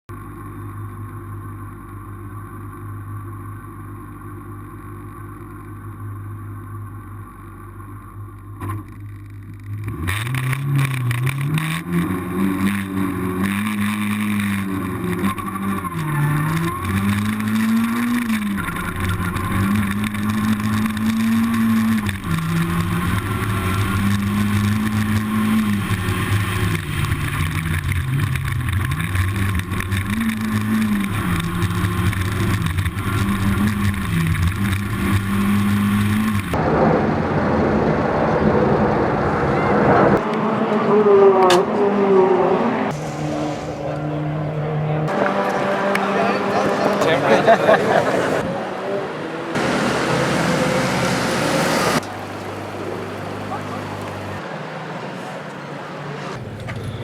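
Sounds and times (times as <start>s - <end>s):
low engine hum: 0.1s - 57.0s
race car engine revving: 9.5s - 57.0s.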